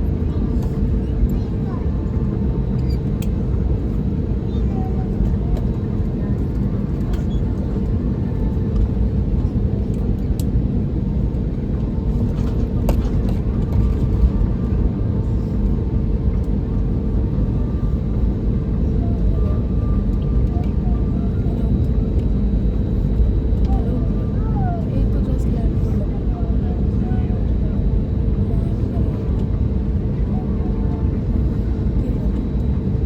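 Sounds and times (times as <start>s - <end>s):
aircraft cabin low rumble: 0.0s - 33.0s.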